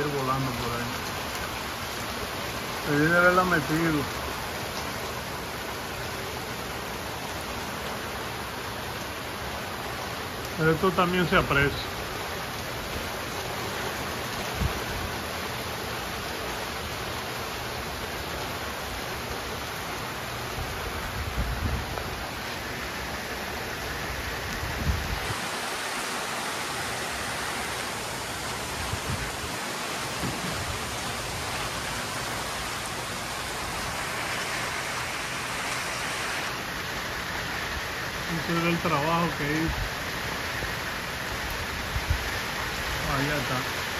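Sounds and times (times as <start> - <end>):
heavy rain hissing: 0.0 - 43.9.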